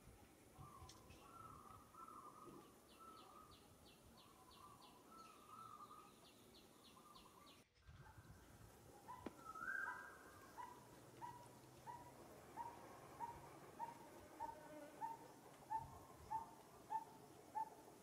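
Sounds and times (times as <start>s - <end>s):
birds chirping: 0.6s - 7.6s, 8.3s - 18.0s.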